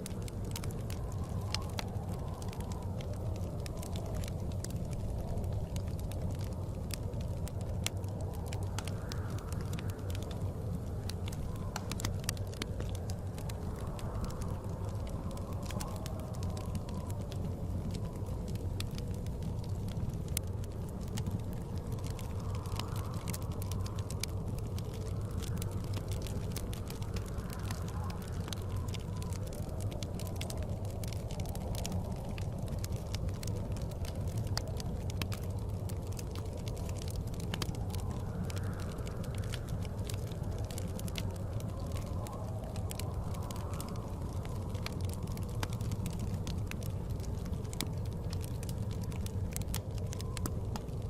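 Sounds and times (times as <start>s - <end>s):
blizzard wind rumble: 0.0s - 51.0s
wood fire crackling: 0.0s - 51.0s.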